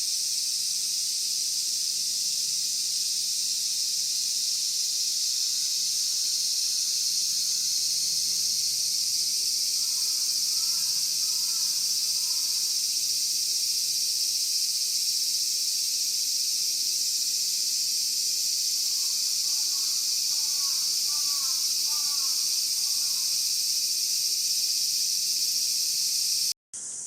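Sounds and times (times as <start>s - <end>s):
insect chorus droning: 0.0s - 27.0s.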